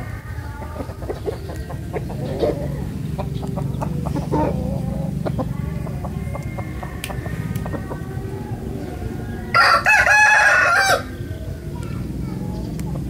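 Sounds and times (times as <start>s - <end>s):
roosters clucking: 0.0s - 13.0s.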